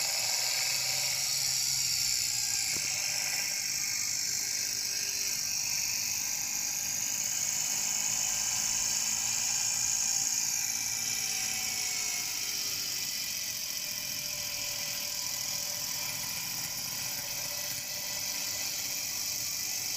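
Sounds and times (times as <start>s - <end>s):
high-pitched engine tinkling: 0.0s - 19.9s.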